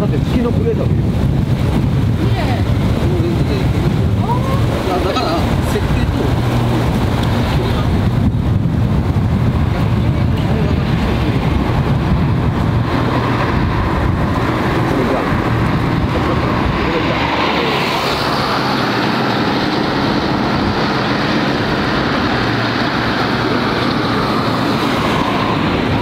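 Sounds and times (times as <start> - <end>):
jet engine hiss and rumble: 0.0 - 26.0
wind on microphone: 0.0 - 26.0.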